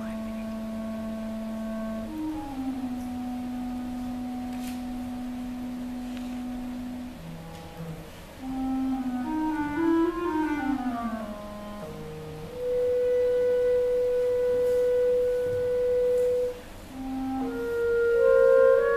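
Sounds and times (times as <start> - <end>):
clarinet quartet playing: 0.0 - 18.9.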